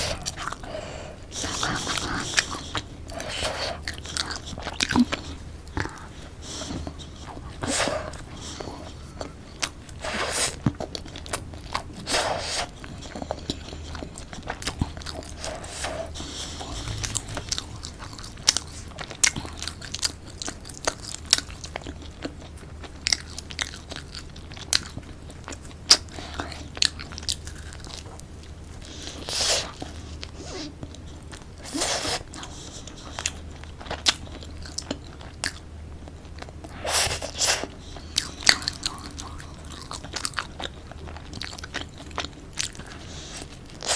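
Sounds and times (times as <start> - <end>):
chewing: 0.0 - 43.9.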